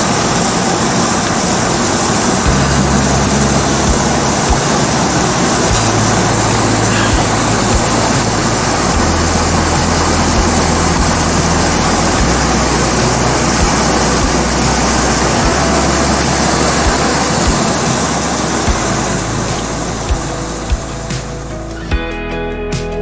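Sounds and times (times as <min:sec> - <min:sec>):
loud rushing noise: 0:00.0 - 0:22.0
low hum changing pitch: 0:02.3 - 0:21.7.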